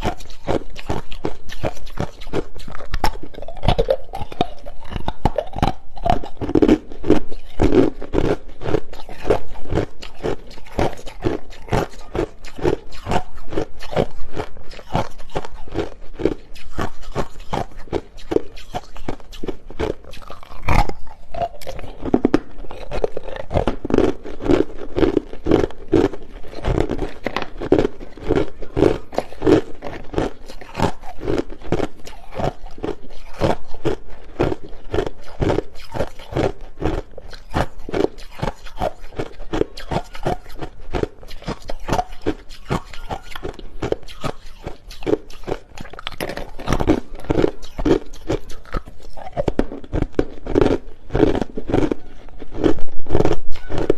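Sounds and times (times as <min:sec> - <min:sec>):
crushed ice being chewed: 0:00.0 - 0:53.9.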